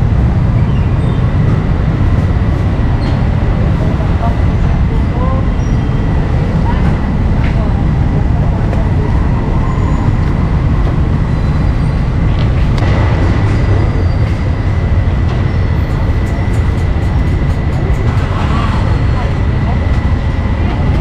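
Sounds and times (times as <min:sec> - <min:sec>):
high whine: 0:00.0 - 0:21.0
machinery rumble: 0:00.0 - 0:21.0.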